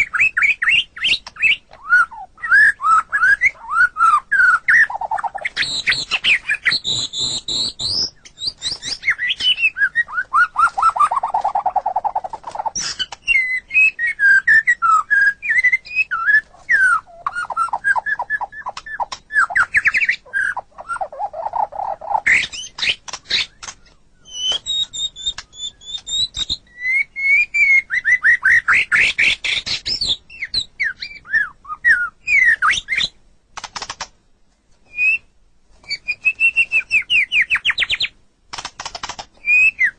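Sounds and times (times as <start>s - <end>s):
bird singing whistles and trills: 0.0s - 33.2s, 34.8s - 38.2s, 39.1s - 39.9s.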